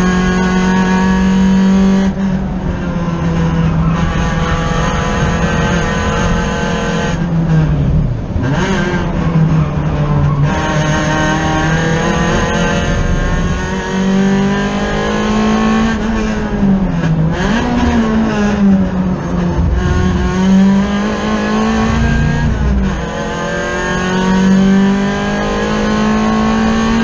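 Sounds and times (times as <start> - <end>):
race car engine revving: 0.0 - 27.0.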